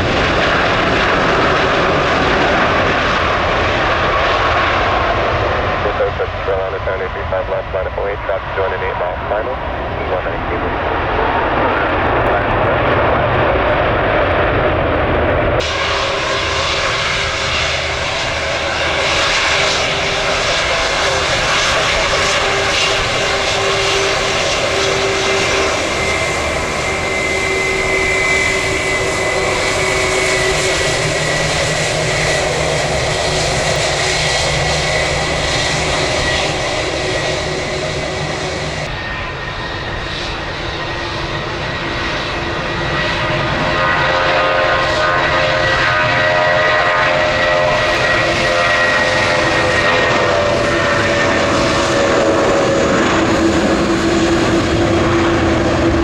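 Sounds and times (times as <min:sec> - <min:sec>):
jet engines roaring with whine: 0:00.0 - 0:56.0.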